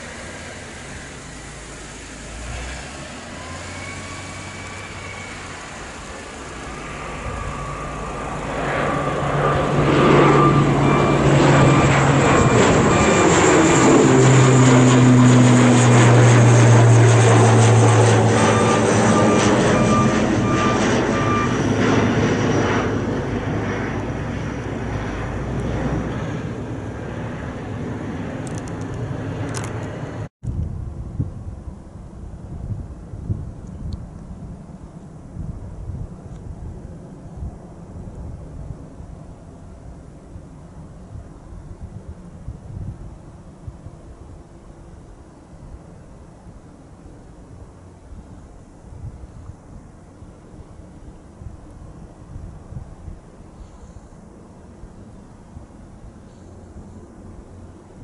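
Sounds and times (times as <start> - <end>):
turboprop plane passing overhead: 0.0 - 58.0.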